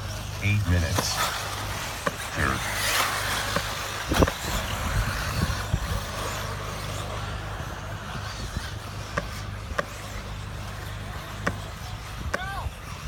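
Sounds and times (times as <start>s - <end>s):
rc cars racing on dirt: 0.0s - 13.0s.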